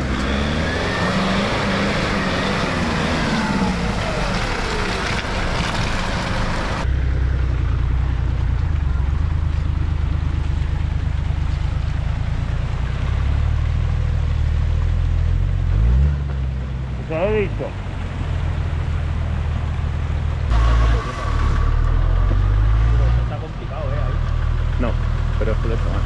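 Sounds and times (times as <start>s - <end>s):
vehicle engine running at low revs: 0.0s - 26.0s.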